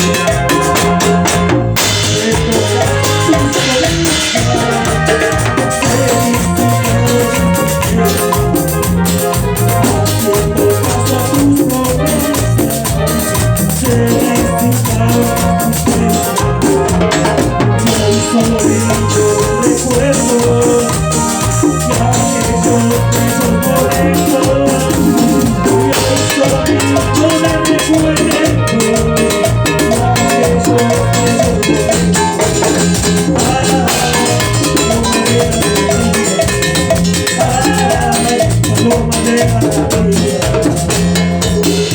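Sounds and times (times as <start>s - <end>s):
latin dance band playing: 0.0s - 41.9s.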